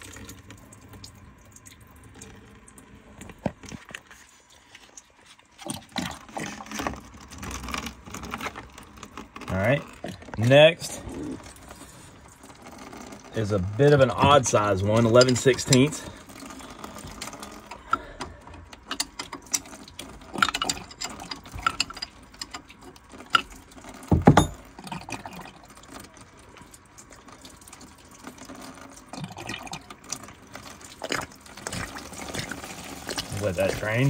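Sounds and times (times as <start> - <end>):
water trickling: 0.0 - 34.0.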